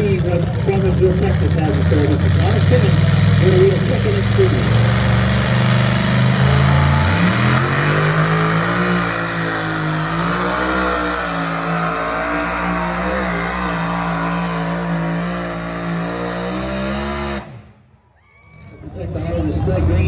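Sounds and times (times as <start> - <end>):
truck engine at high revs: 0.0 - 17.9, 18.9 - 20.0.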